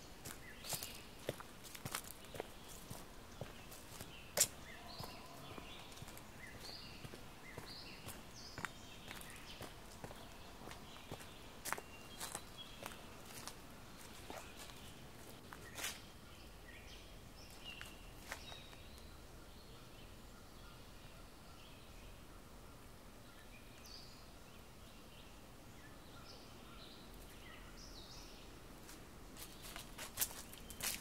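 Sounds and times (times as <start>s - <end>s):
quiet hiss: 0.0s - 31.0s
small birds chirping: 0.0s - 31.0s.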